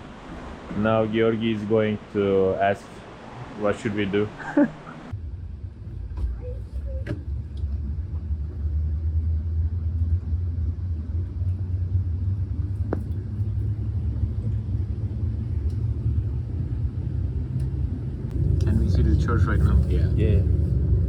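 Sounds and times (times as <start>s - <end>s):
cable car rumbling: 0.0s - 21.0s.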